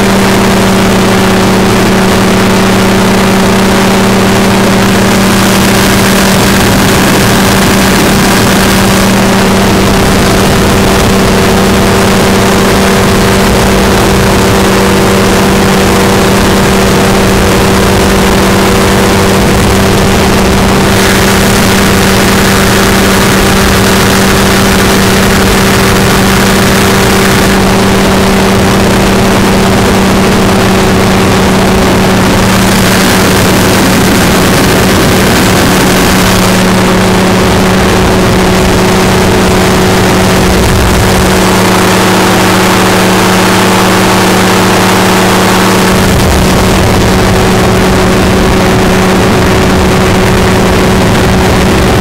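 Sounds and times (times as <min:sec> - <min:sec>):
light aircraft engine droning: 0:00.0 - 0:52.0
wind rushing over microphone: 0:00.0 - 0:52.0.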